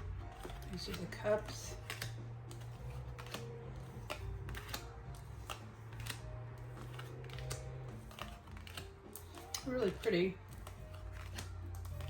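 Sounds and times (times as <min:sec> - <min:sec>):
cards clicking on table: 0:00.3 - 0:12.0.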